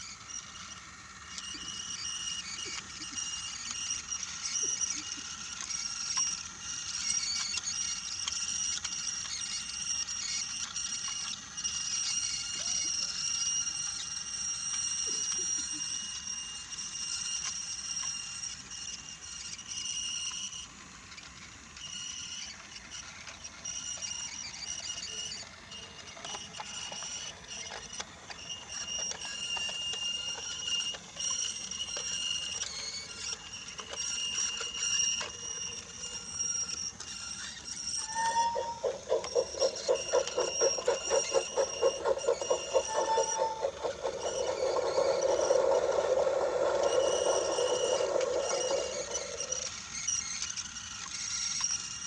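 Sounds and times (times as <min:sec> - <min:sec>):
toy locomotive motor whine: 0:00.0 - 0:52.0
toy train clicking on wooden track: 0:00.0 - 0:52.0.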